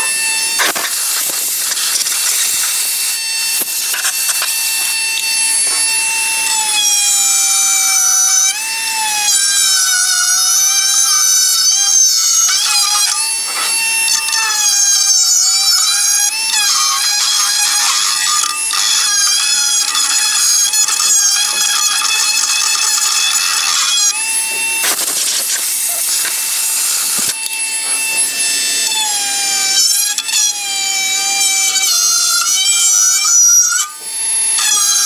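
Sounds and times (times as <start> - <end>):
rotary tool grinding: 0.0 - 35.0.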